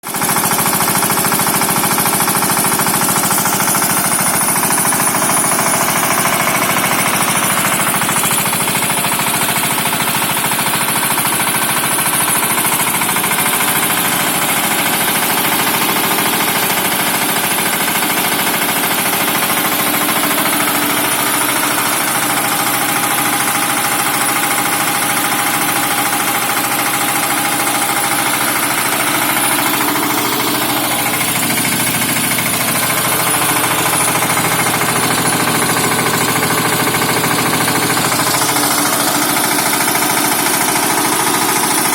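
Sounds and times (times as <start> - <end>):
diesel generator running: 0.0 - 41.9.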